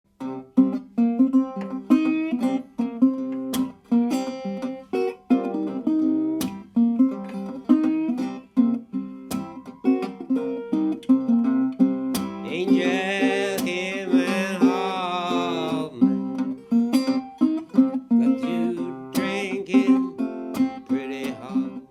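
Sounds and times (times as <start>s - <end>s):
slide guitar blues: 0.2s - 21.9s.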